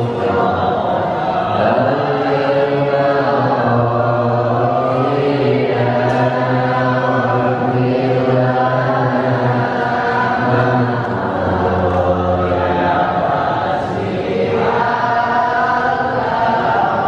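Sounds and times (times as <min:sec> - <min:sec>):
group chanting in unison: 0:00.0 - 0:17.0.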